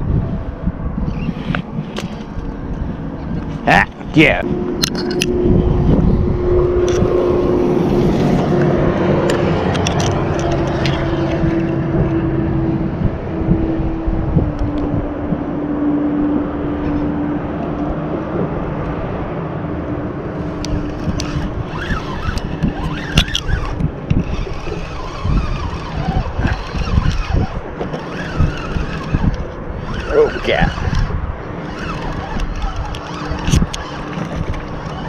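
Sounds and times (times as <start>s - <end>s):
passing vehicle hum: 0.0s - 35.0s
road traffic: 0.0s - 35.0s
wind on microphone: 0.0s - 35.0s.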